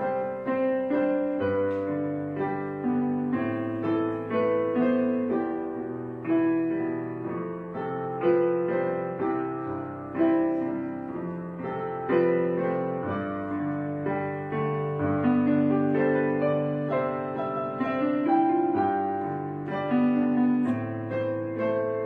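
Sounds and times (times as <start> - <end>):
slow gentle piano chords: 0.0 - 22.0.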